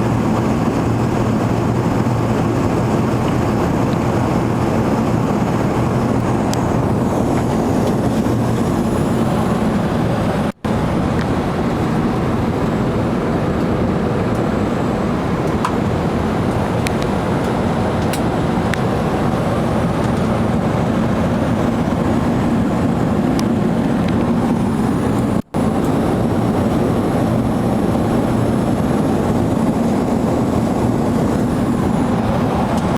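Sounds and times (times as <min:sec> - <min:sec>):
airliner cabin engine and airflow noise: 0:00.0 - 0:32.9.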